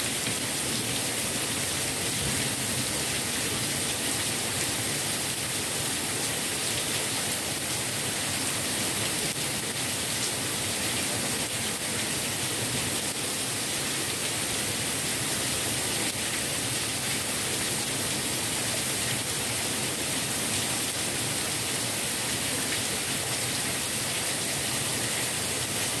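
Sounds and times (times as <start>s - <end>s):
heavy rain through leaves: 0.0s - 26.0s.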